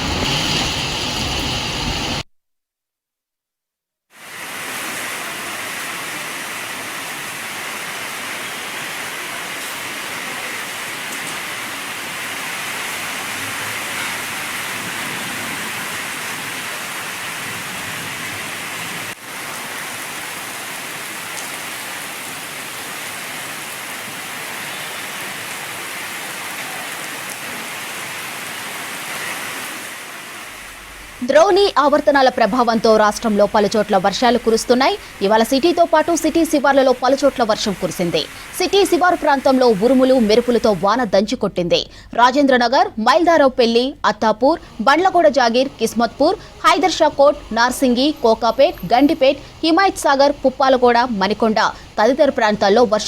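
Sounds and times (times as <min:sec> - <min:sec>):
heavy rain pouring: 0:00.0 - 0:02.2, 0:04.1 - 0:53.0.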